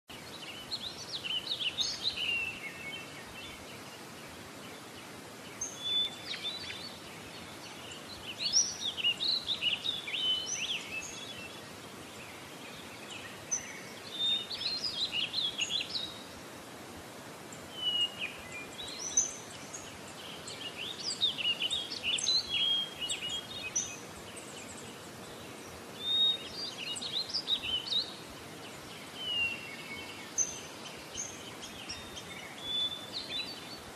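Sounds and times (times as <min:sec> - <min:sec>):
background hiss: 0:00.1 - 0:33.9
songbirds chirping and trilling: 0:00.1 - 0:33.9.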